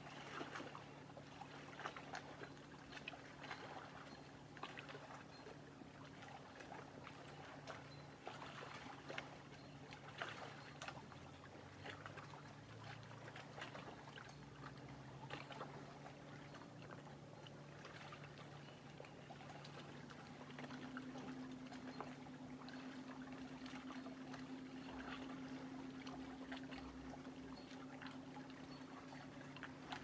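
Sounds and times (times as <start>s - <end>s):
faint low hum: 0.0s - 30.0s
waves lapping at water's edge: 0.0s - 30.0s.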